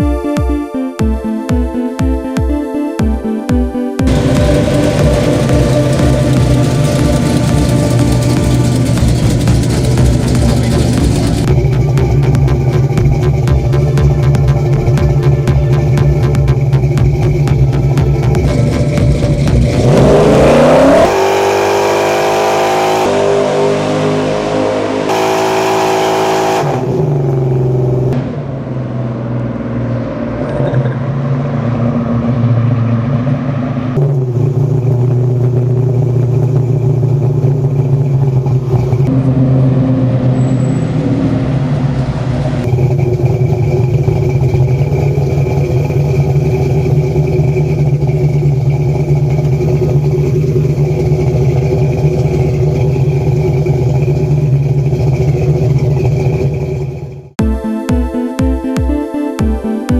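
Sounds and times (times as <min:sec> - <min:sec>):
engine revving hard: 0:04.1 - 0:57.2.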